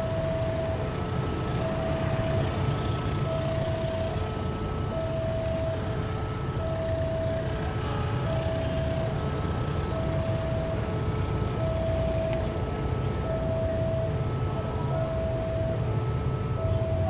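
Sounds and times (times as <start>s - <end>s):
diesel locomotive rumble: 0.0s - 17.0s
two-tone electronic warning signal: 0.0s - 17.0s.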